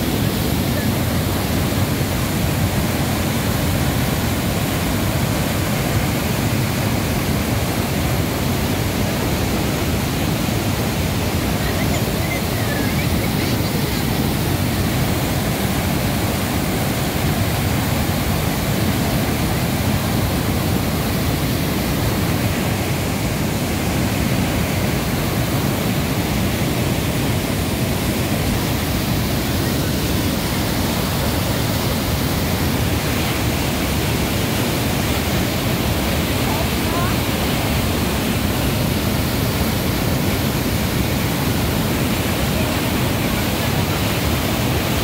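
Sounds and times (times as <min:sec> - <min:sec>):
water rushing over a weir: 0:00.0 - 0:45.0.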